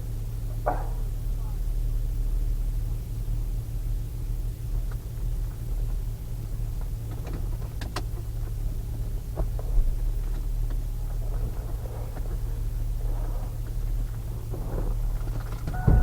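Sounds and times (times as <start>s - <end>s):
engine low rumble: 0.0s - 16.0s.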